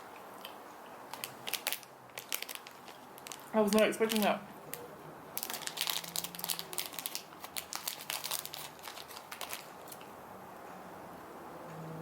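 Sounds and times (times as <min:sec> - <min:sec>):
plastic wrapper crinkling: 0:00.4 - 0:10.1.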